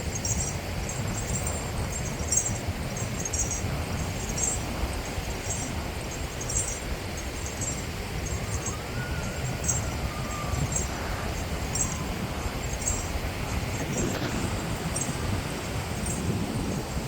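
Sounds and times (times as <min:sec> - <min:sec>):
low beach rumble: 0:00.0 - 0:17.0.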